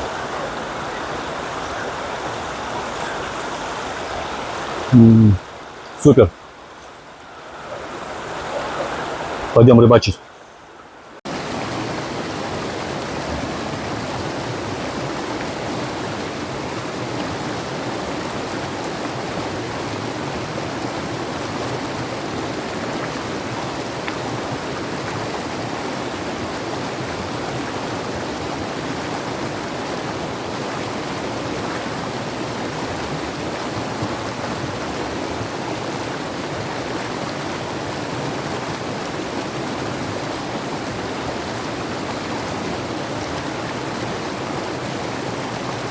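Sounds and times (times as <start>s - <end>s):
mountain river rushing: 0.0s - 45.9s.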